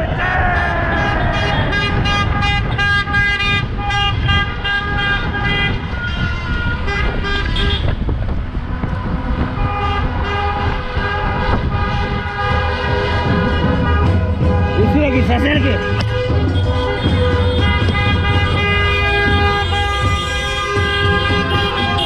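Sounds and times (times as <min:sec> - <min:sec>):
car horns honking: 0:00.0 - 0:08.1, 0:09.4 - 0:22.0
wind and traffic rumble: 0:00.0 - 0:22.0.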